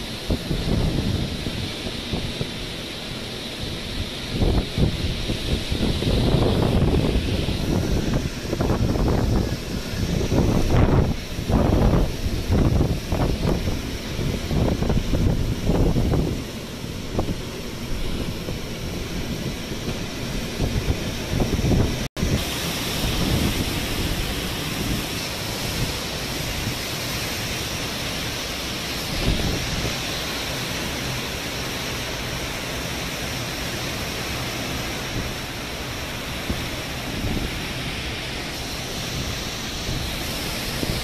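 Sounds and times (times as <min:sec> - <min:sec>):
strong wind buffeting microphone: 0:00.0 - 0:41.0
trees lashed by wind: 0:00.0 - 0:41.0.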